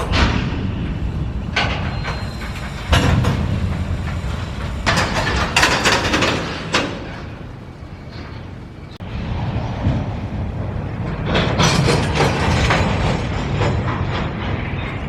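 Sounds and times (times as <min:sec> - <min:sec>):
freight cars clanking together: 0:00.0 - 0:09.0, 0:10.5 - 0:15.0
steady low rumble: 0:00.0 - 0:15.0.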